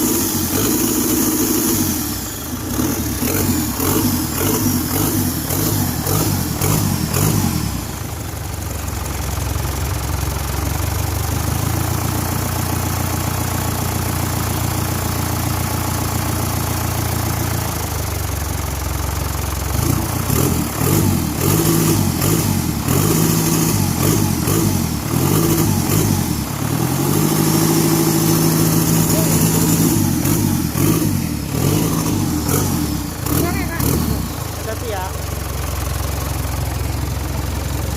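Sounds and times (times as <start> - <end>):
diesel engine idling and revving: 0.0 - 37.9.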